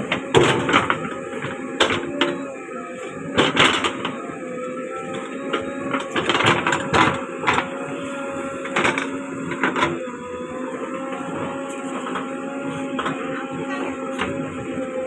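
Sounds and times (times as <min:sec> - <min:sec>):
backhoe engine with hydraulic whine: 0:00.0 - 0:15.0.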